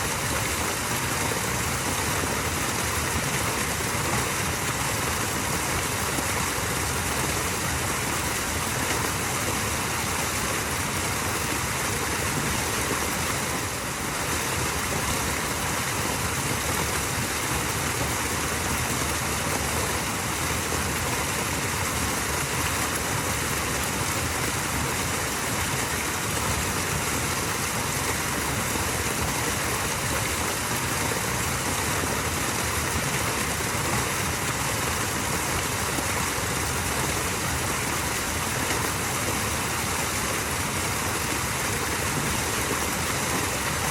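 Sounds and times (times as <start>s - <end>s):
waterfall splashing: 0.0s - 43.9s.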